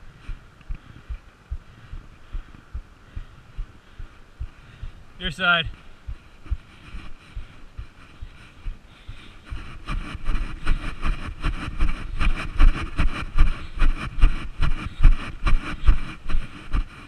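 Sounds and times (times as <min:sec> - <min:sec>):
running footsteps: 0:00.0 - 0:17.0
wind rumbling on microphone: 0:00.0 - 0:17.0.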